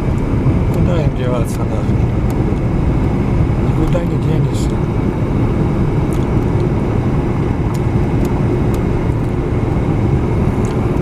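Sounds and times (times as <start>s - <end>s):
car interior driving noise: 0.0s - 11.0s.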